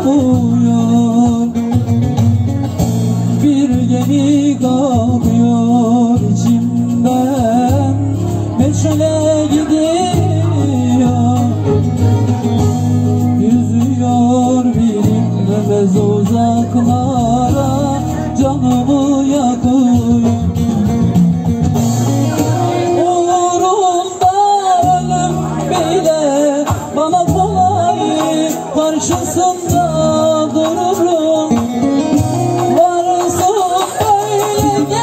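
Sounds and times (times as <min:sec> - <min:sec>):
electronic keyboard accompaniment: 0:00.0 - 0:35.0.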